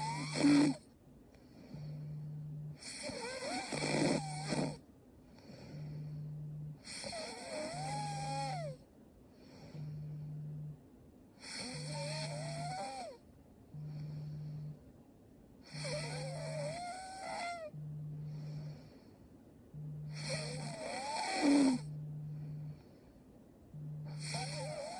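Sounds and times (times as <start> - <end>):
woman snoring: 0.0 - 0.9, 1.5 - 4.8, 5.4 - 8.8, 9.4 - 10.8, 11.4 - 14.8, 15.6 - 19.0, 19.7 - 23.0, 23.7 - 24.9
low steady hum: 0.0 - 24.9.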